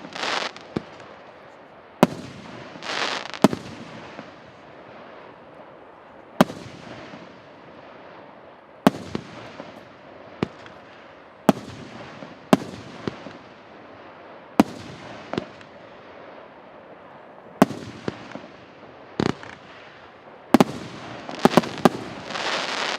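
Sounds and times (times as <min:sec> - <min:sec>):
fireworks bursting with echo: 0:00.0 - 0:22.9.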